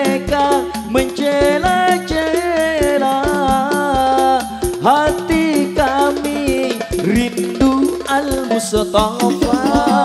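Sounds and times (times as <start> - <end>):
man singing through a microphone: 0.0 - 10.0.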